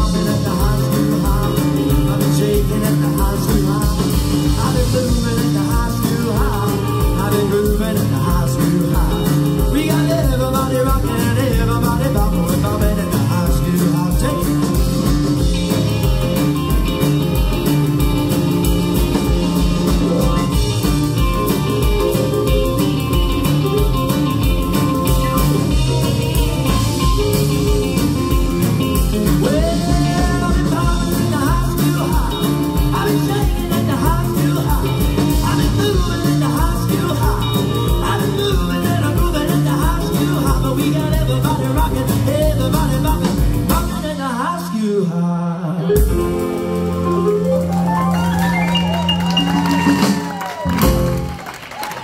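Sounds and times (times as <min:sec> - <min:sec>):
sliding lead guitar line: 0:00.0 - 0:44.2, 0:45.8 - 0:51.6
rock and roll band playing: 0:00.0 - 0:52.0.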